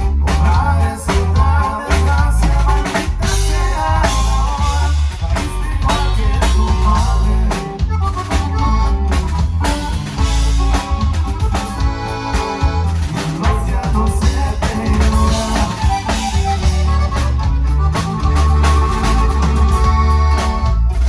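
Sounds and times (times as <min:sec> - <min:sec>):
band playing: 0:00.0 - 0:21.0
drum kit beating: 0:00.0 - 0:21.0
heavy bass line: 0:00.0 - 0:21.0.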